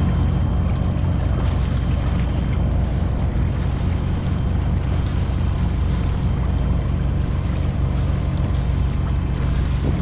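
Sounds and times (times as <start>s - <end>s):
water rushing in boat wake: 0.0s - 10.0s
wind buffeting microphone: 0.0s - 10.0s.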